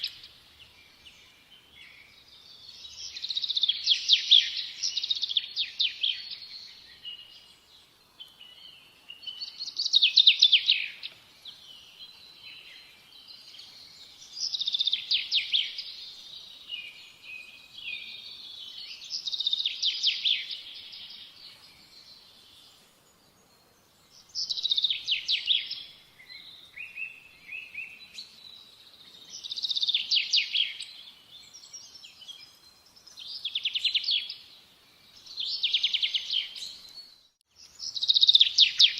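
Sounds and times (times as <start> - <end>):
bird singing trills: 0.0 - 38.9.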